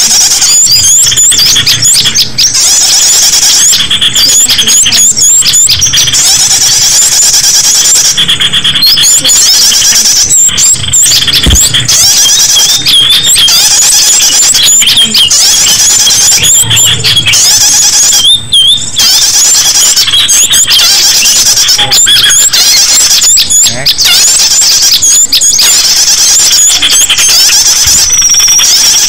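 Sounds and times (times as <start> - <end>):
small bird chirps and trills: 0.0 - 29.0.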